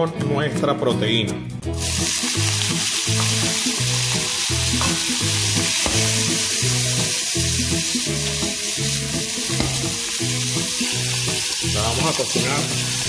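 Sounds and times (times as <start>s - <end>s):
background music with bass line: 0.0s - 13.0s
meat sizzling in hot oil: 1.7s - 13.0s.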